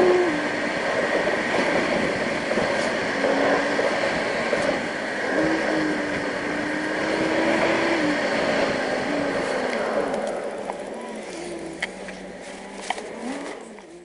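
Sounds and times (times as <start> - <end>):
low engine hum: 0.0 - 14.0
road and tyre noise: 0.0 - 14.0.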